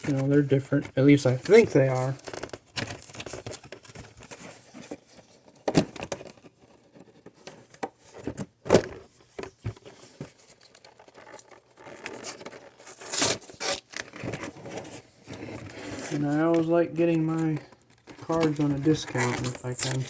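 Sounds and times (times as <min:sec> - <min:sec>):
cardboard and plastic rustling: 0:00.0 - 0:20.0.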